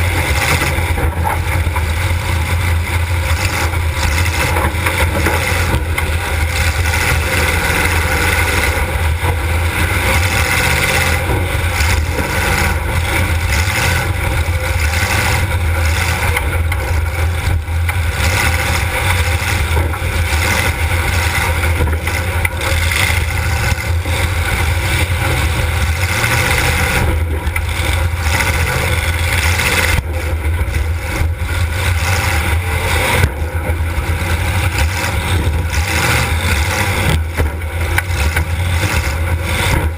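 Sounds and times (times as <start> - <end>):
car engine running loud: 0.0 - 39.9.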